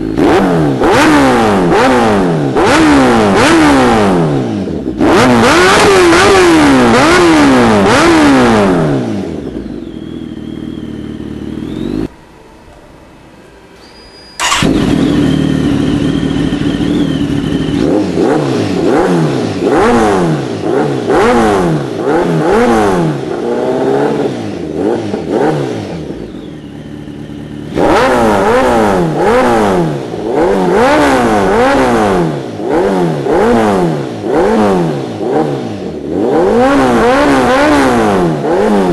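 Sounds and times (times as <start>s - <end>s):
motorcycle engine revving: 0.0s - 12.2s, 14.0s - 38.9s.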